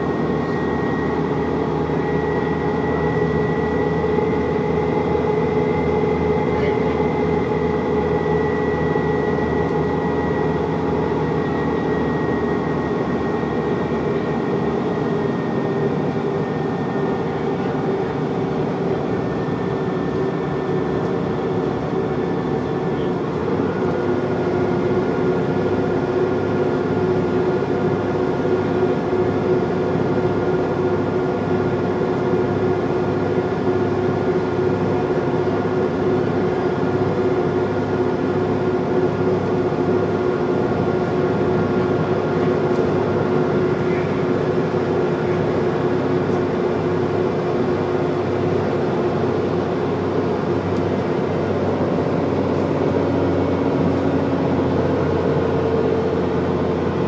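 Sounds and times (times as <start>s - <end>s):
bus diesel engine under load: 0.0s - 57.0s.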